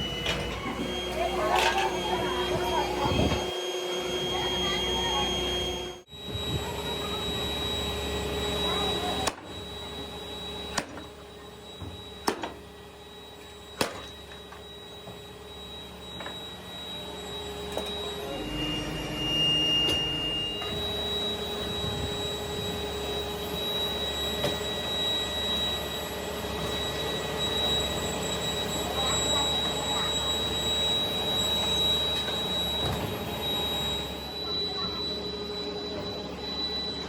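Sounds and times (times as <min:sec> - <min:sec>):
factory machinery humming: 0:00.0 - 0:37.0
higher steady tone: 0:00.0 - 0:37.0.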